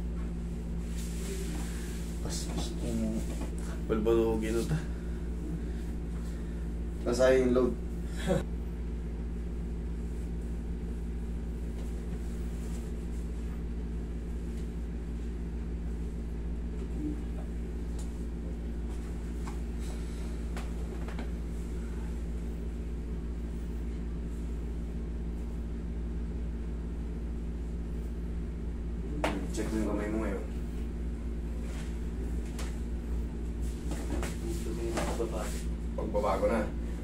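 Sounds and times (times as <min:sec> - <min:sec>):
air conditioner humming: 0:00.0 - 0:37.0.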